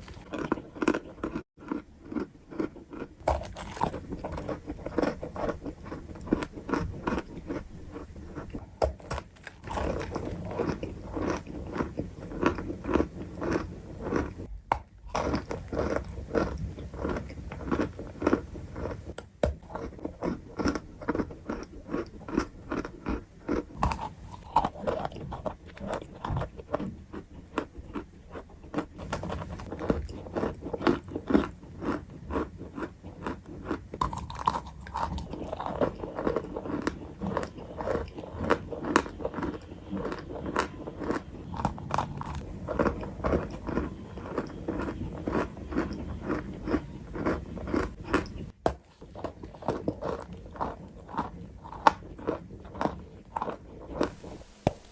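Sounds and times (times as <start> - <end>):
crunching and chewing snacks: 0.0 - 54.9.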